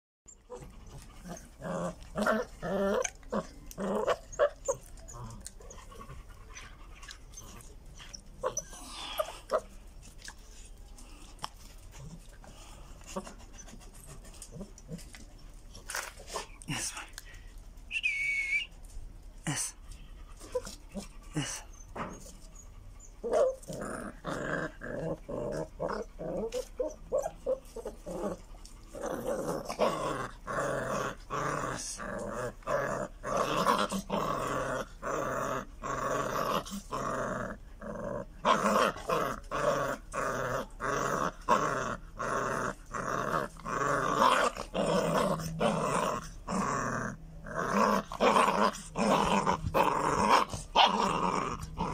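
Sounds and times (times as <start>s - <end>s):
puppies growling: 0.3s - 17.4s, 20.1s - 51.9s.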